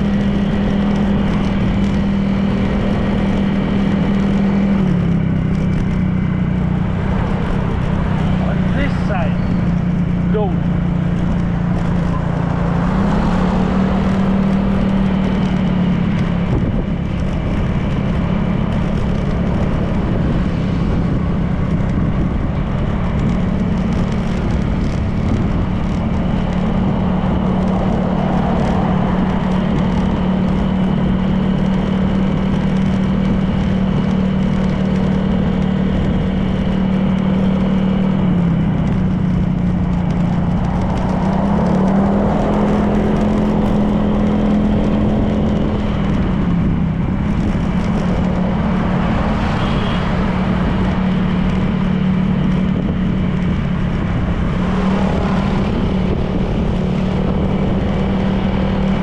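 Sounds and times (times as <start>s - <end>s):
road and wind noise: 0.0s - 59.0s
scooter engine running: 0.0s - 59.0s.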